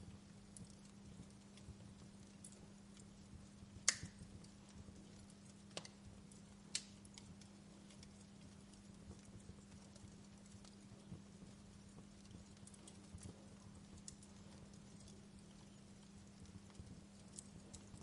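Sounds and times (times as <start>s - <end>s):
low steady hum: 0.0s - 18.0s
wood fire crackling and popping: 0.0s - 18.0s.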